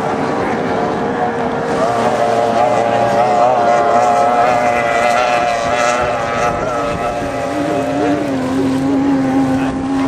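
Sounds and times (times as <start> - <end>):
racing outboard engines: 0.0 - 10.0.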